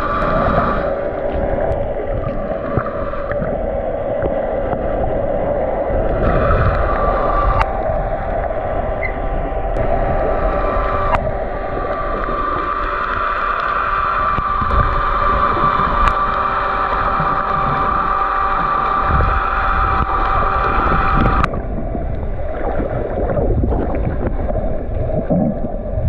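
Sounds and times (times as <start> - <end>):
constant hum: 0.0 - 26.0
muffled underwater rumble: 0.0 - 26.0.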